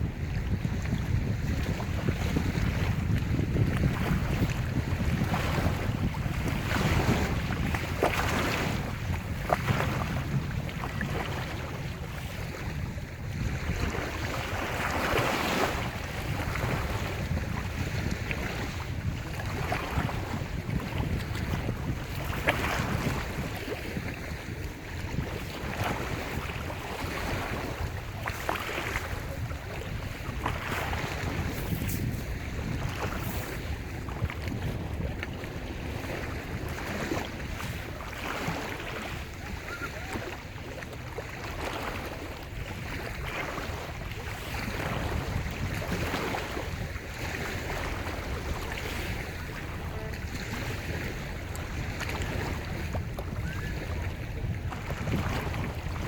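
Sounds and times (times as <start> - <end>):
small waves washing on shore: 0.0 - 56.0
wind rumble on microphone: 0.0 - 56.0.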